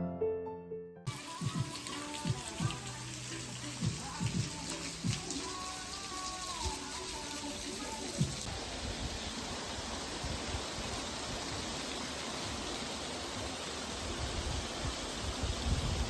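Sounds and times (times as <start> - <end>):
stream rushing: 1.1 - 16.0.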